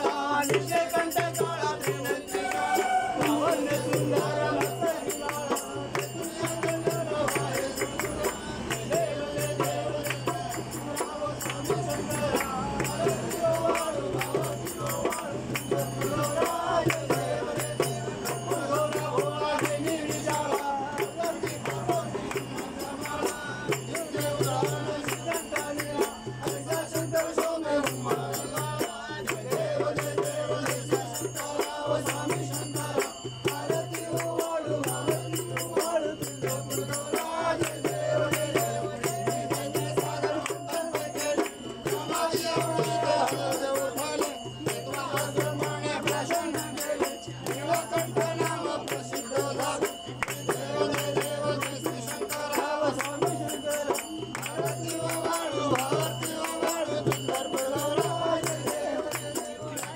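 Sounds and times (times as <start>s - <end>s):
group singing: 0.0s - 59.9s
hand-clapping: 0.1s - 43.5s, 44.2s - 59.9s.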